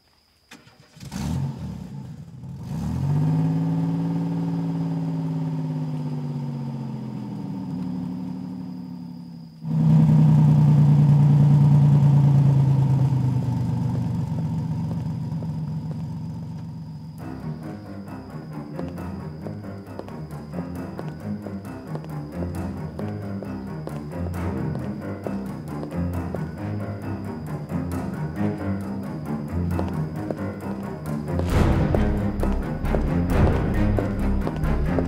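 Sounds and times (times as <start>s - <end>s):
car engine pulling away: 0.5s - 35.0s
dark background music drone: 1.0s - 35.0s.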